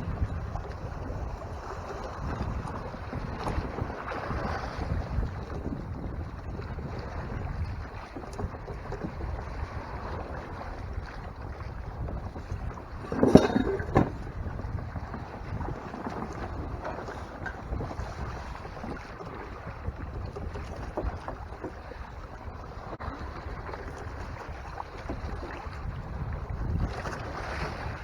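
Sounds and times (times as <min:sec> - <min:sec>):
water rushing along hull: 0:00.0 - 0:28.0
wind buffeting microphone: 0:00.0 - 0:28.0.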